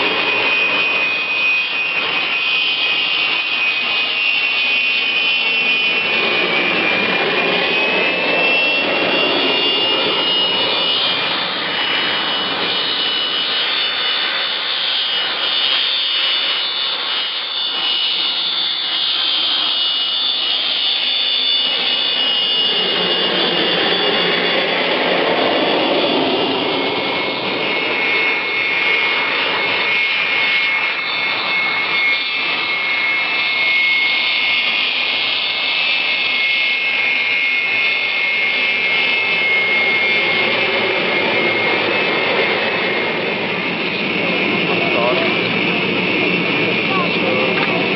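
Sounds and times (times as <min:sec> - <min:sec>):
jet rushing past: 0:00.0 - 0:17.4, 0:20.4 - 0:35.4, 0:36.2 - 0:47.9
jet engines whining: 0:00.0 - 0:47.9.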